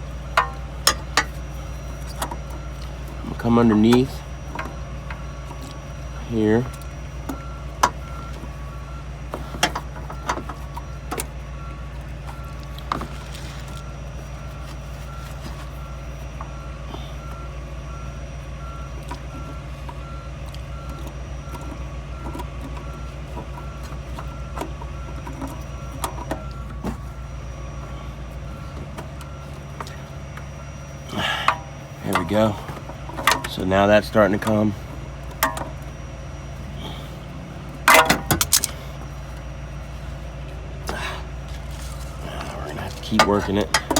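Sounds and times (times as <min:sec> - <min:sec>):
low engine hum: 0:00.0 - 0:43.9
reversing alarm beeping: 0:00.0 - 0:43.9.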